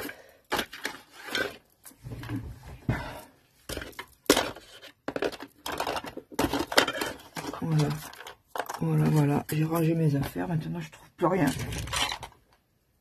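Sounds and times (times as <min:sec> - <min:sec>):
craft supplies rummaged on desk: 0:00.0 - 0:12.8.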